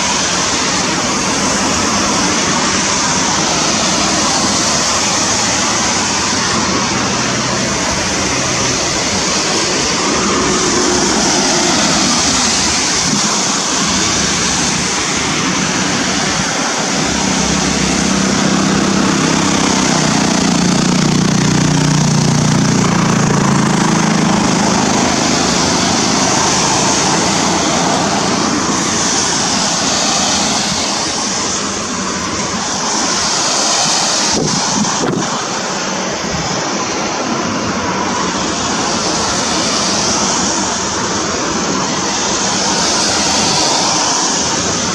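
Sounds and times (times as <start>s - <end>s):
river water rushing: 0.0s - 44.9s
wind blowing across microphone: 0.0s - 44.9s.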